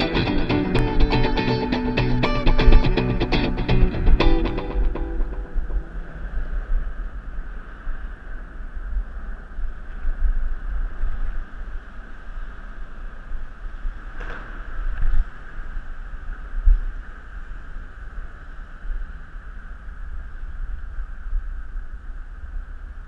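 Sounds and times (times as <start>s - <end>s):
wind buffeting microphone: 0.0s - 23.0s
bicycle rolling hiss and rumble: 2.7s - 23.0s.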